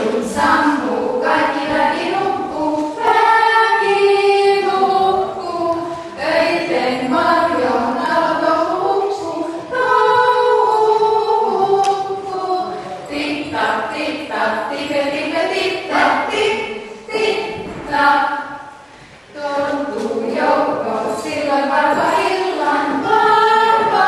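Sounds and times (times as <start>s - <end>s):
women singing a cappella: 0.0s - 18.7s, 19.3s - 24.0s.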